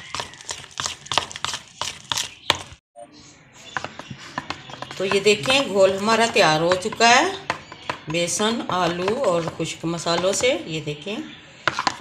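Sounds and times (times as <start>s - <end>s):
spoon beating batter in a bowl: 0.0s - 2.8s, 3.6s - 12.0s.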